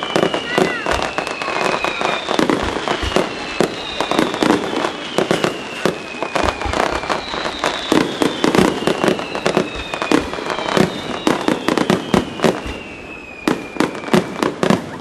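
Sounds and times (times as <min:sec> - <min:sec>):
high whistle sliding down: 0:00.0 - 0:14.5.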